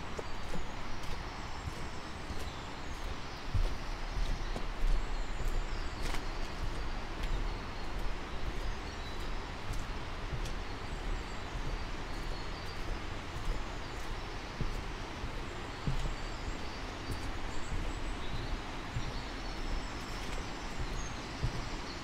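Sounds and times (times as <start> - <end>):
low wind rumble: 0.0 - 22.0
footsteps crunching: 0.1 - 8.0, 8.6 - 22.0.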